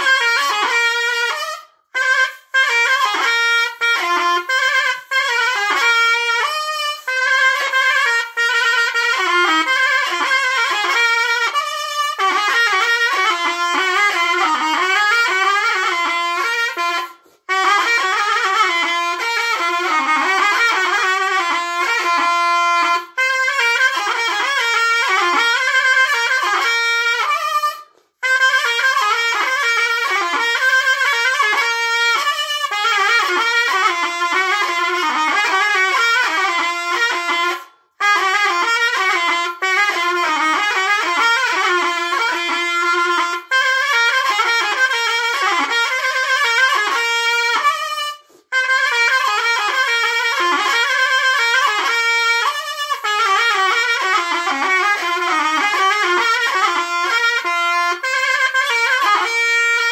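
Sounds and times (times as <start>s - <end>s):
shawm playing fast folk melody: 0.0s - 59.9s.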